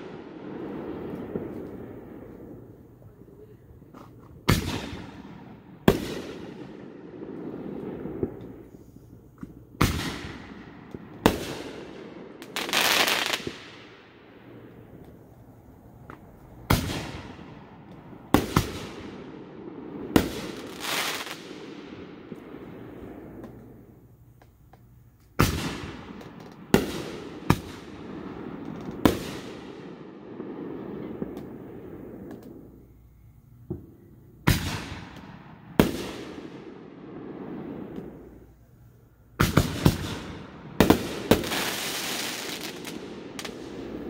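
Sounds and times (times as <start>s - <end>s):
fireworks bangs with echo: 0.0s - 2.7s, 4.4s - 8.7s, 9.4s - 14.8s, 16.1s - 23.6s, 25.4s - 32.6s, 33.7s - 38.3s, 39.4s - 44.0s
hissing fireworks bursts: 0.0s - 44.0s.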